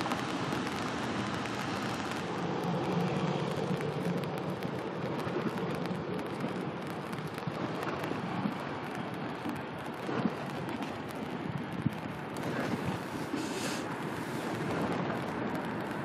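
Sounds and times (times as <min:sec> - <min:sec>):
small crackles: 0:00.0 - 0:16.0
water rushing: 0:00.0 - 0:16.0.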